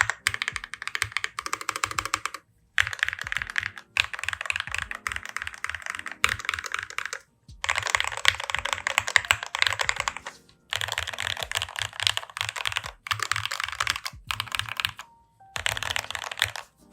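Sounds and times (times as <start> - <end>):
fast typing on mechanical keyboard: 0.0 - 15.0, 15.6 - 16.7.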